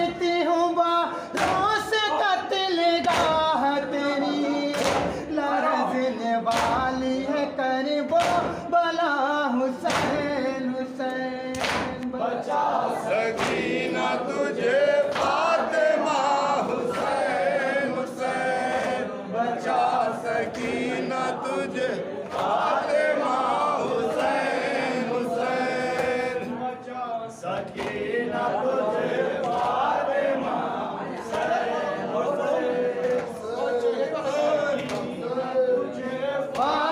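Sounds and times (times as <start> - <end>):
men chanting in unison: 0.0 - 36.9.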